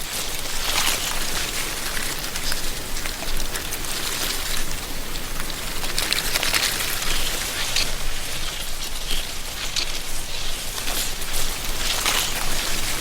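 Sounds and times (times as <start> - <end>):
wind rustling dry leaves: 0.0 - 13.0.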